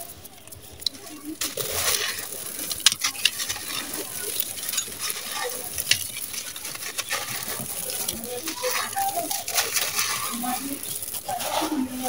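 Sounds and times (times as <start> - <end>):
cement lump crumbling in hands: 0.0 - 12.0
grains pattering into pot: 0.0 - 12.0.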